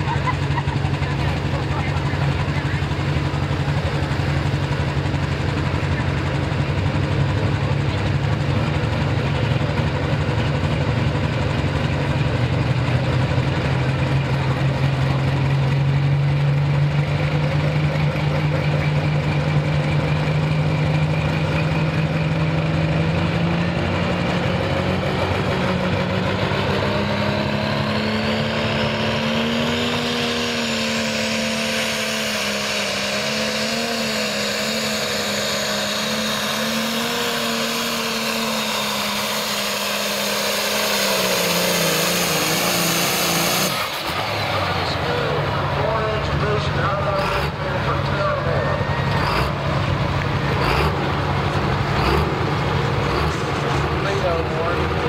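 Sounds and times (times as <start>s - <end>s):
diesel tractor engine running: 0.0s - 55.0s
high turbocharger whine: 0.0s - 55.0s.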